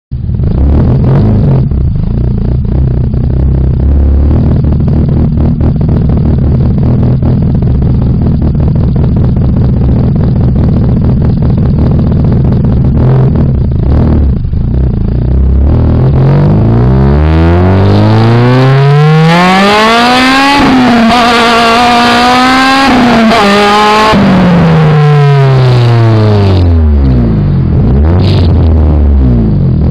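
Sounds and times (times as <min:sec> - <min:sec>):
car engine exhaust revving: 0:00.1 - 0:29.9.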